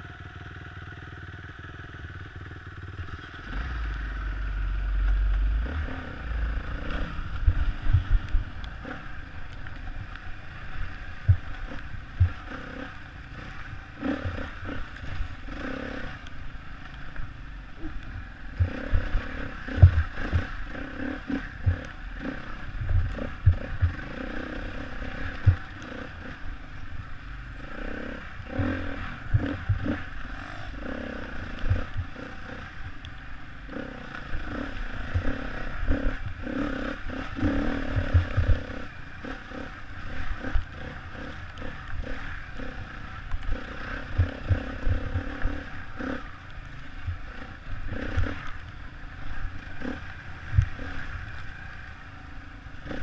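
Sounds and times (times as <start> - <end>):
motorcycle engine: 0.0 - 53.0.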